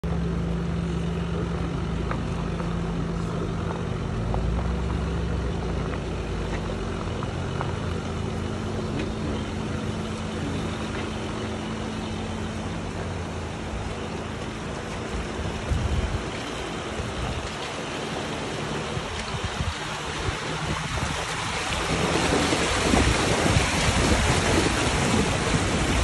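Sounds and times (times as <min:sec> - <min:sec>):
car engine low hum: 0:00.0 - 0:26.0
tyres crunching over gravel: 0:00.9 - 0:26.0.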